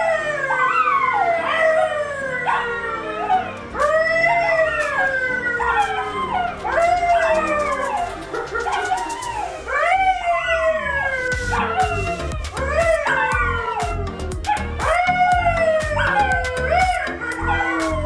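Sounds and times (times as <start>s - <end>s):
dog howling: 0.0s - 18.0s.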